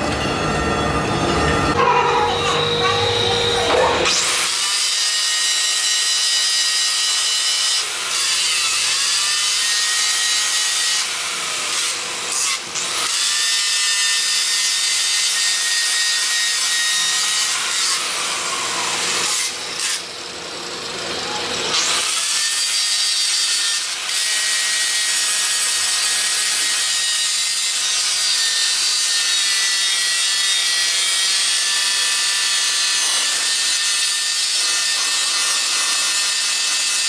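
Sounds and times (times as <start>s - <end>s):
angle grinder grinding steel: 0.0s - 37.0s.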